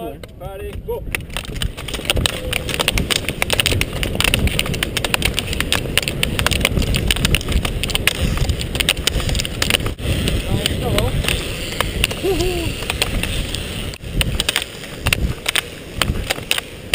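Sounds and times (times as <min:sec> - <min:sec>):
roller ski wheels rolling: 0:00.0 - 0:16.9
ski poles clattering on asphalt: 0:00.1 - 0:16.9.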